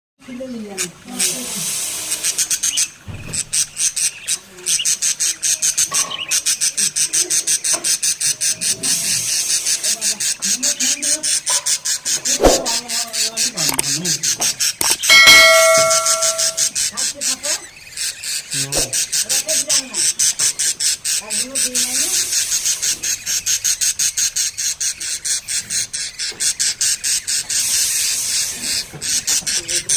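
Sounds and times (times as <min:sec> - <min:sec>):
budgerigar chicks chirping: 0:00.2 - 0:29.9.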